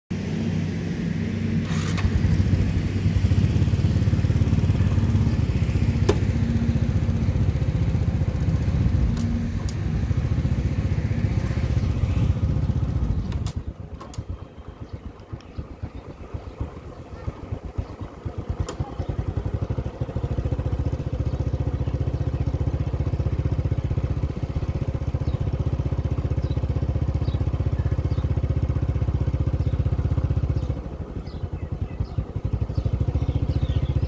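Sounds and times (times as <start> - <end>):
engine rumbling: 0.1 - 34.0.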